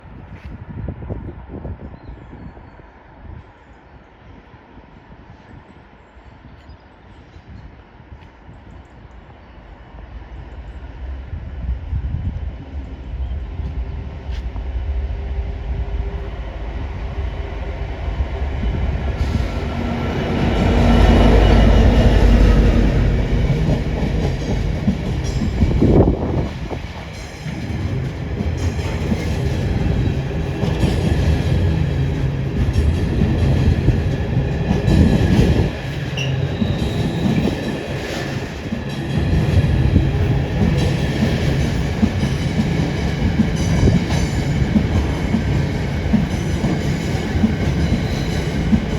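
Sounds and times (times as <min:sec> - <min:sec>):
diesel locomotive passing: 0:04.0 - 0:48.9.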